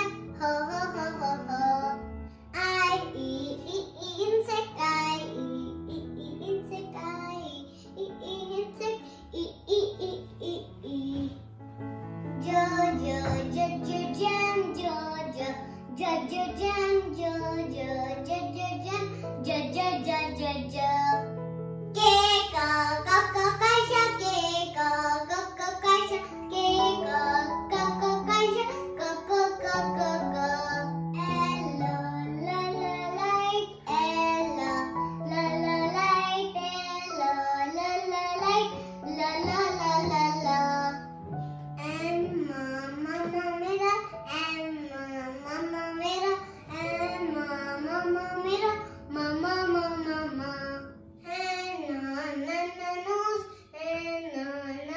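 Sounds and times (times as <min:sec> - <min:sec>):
child singing: 0:00.0 - 0:11.5, 0:12.3 - 0:21.3, 0:22.0 - 0:54.9
light instrumental backing: 0:00.0 - 0:54.9.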